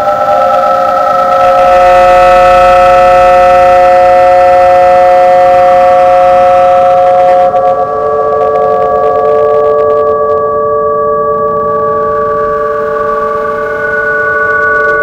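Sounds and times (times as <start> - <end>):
sustained drone music: 0.0 - 15.0.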